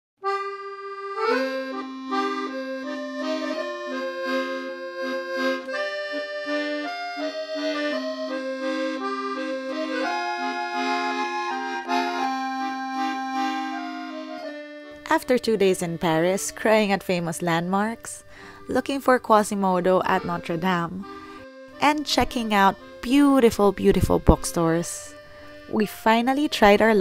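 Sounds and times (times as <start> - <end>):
accordion melody: 0.2 - 27.0.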